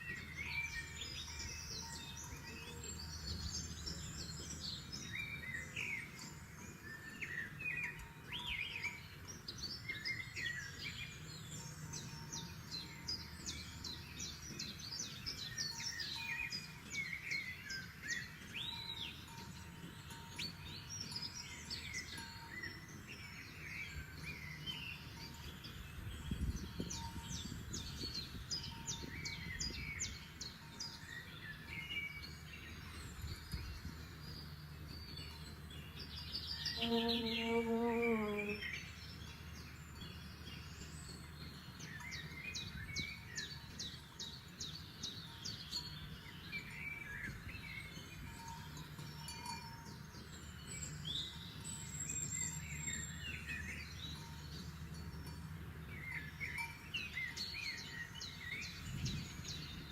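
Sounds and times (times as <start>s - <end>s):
songbird chorus: 0.0s - 59.9s.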